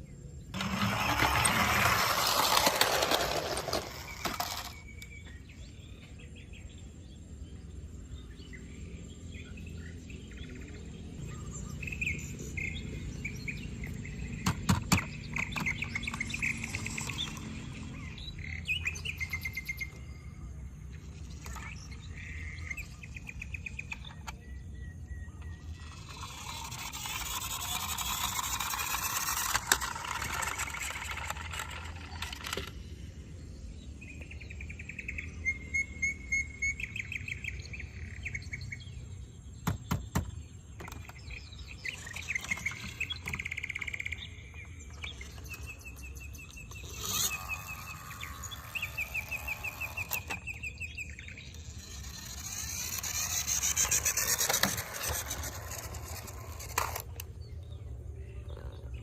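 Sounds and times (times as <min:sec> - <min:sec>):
birds chirping in rapid trills: 0:00.0 - 0:59.0.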